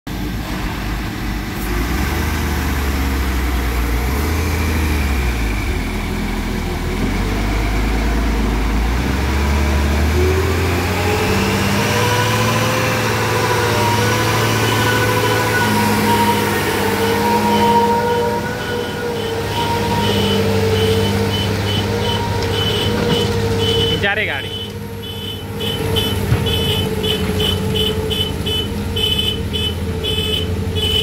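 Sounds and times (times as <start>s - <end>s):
diesel truck engine: 0.1s - 31.0s.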